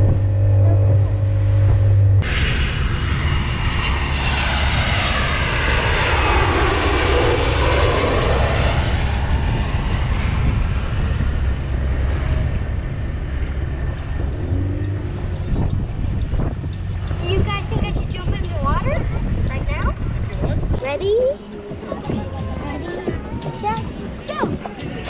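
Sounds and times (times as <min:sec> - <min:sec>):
jet airliner roaring overhead: 0:00.0 - 0:25.0.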